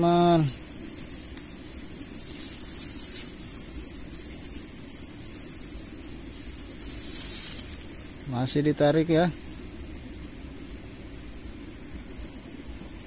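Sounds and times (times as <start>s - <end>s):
thin high-pitched whine: 0.0s - 13.0s.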